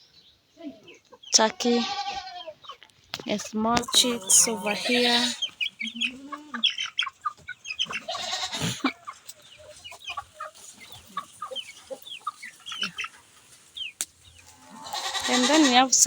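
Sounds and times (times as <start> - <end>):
chickens clucking: 0.4 - 16.0
chicks peeping: 2.1 - 16.0.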